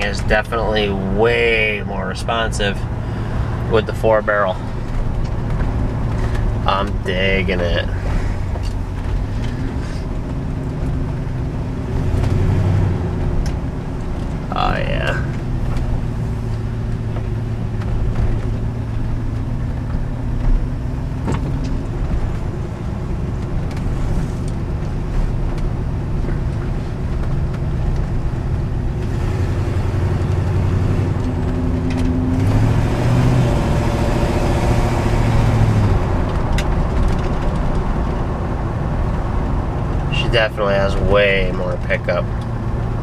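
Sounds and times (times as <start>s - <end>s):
car engine from inside cabin: 0.0s - 43.0s.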